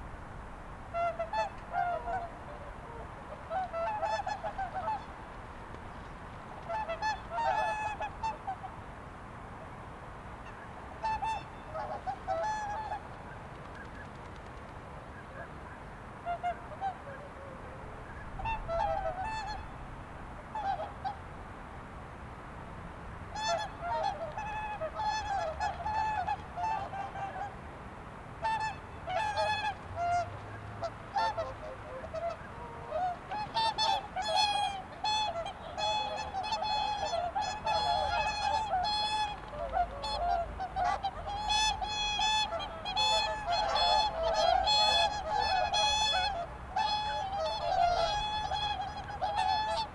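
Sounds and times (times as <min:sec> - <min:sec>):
swans honking: 0:00.8 - 0:08.9, 0:10.4 - 0:21.3, 0:23.2 - 0:27.7, 0:28.4 - 0:49.9.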